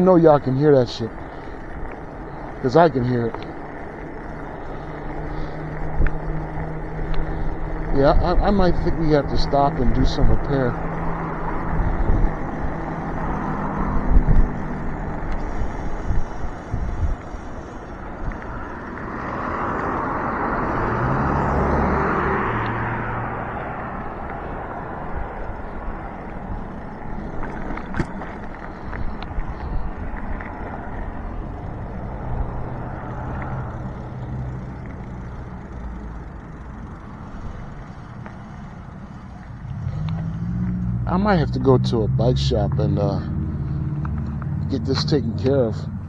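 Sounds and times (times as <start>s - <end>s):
wind and tyre noise: 0.0s - 46.0s.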